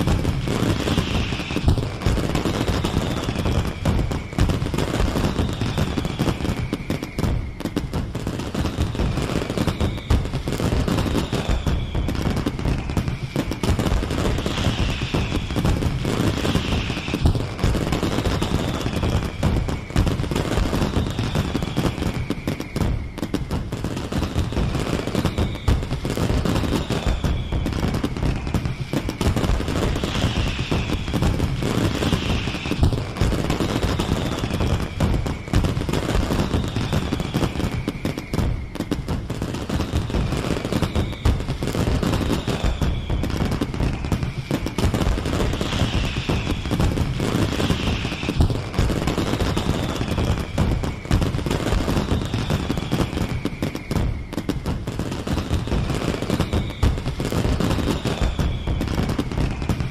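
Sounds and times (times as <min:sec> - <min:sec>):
falling firework whistle: 0:00.0 - 0:59.9
fireworks crackling and booming: 0:00.0 - 0:59.9.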